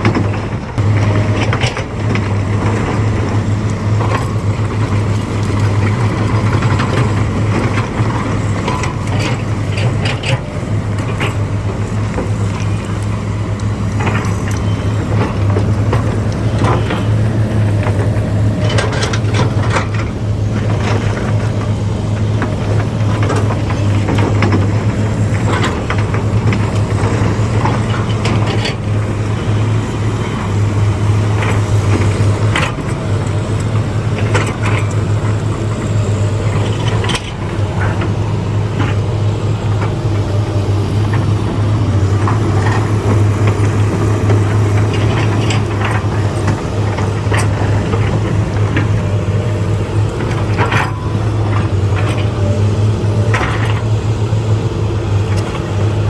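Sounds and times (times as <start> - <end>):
metal clanks and knocks: 0.0 - 54.2
diesel engine under load: 0.0 - 56.0.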